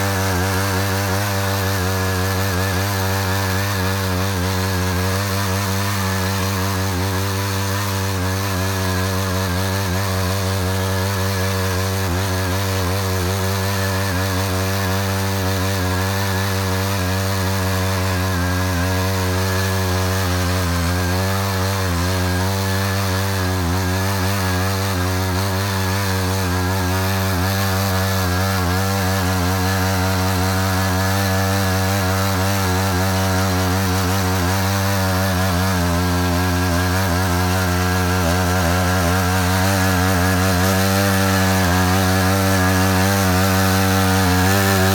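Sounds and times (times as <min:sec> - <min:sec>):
cultivator engine running: 0:00.0 - 0:44.9.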